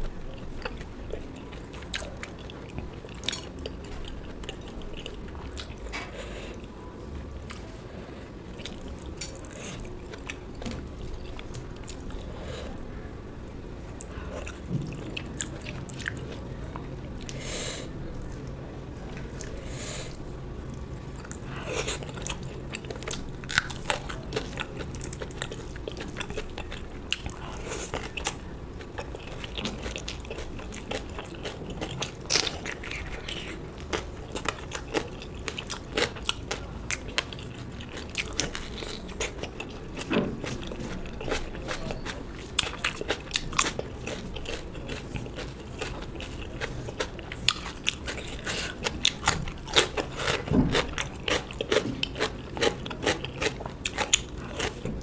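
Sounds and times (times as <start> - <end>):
person chewing crunchy food: 0.0 - 6.6, 8.5 - 12.8, 13.9 - 18.4, 19.1 - 55.0.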